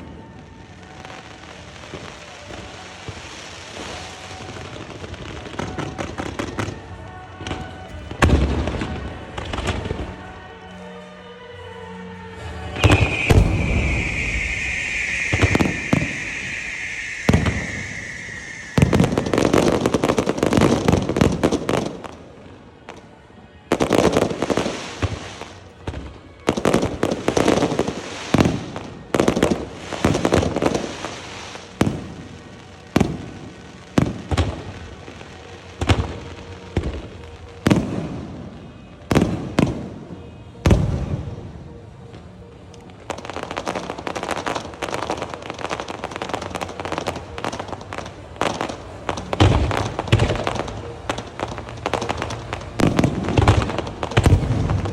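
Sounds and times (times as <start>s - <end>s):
firework bangs: 0.0s - 10.3s, 12.7s - 54.9s
firework whistle: 0.0s - 10.3s, 12.0s - 54.9s
firework crackling: 0.0s - 11.0s, 12.3s - 54.9s.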